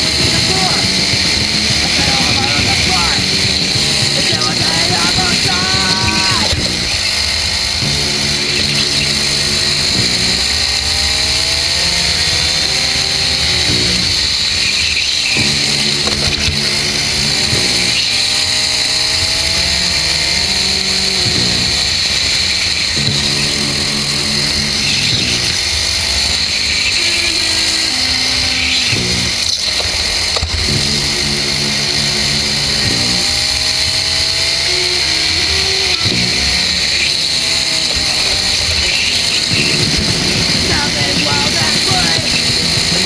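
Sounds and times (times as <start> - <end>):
racing kart engine revving: 0.0 - 43.0.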